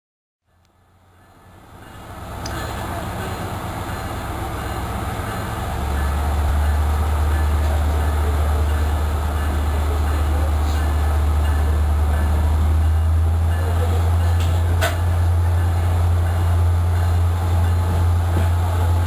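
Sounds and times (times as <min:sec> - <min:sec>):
train rattling and rumbling: 0:00.5 - 0:19.0.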